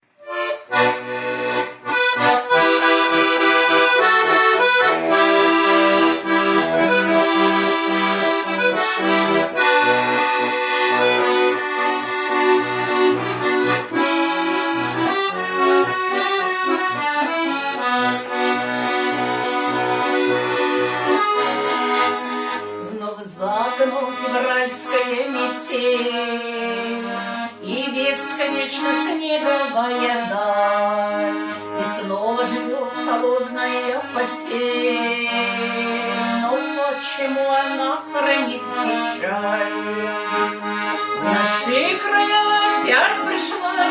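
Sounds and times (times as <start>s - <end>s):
accordion playing: 0.0s - 43.9s.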